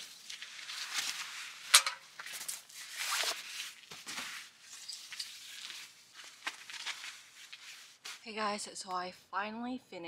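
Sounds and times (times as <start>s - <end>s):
fabric rustling: 0.0s - 9.1s.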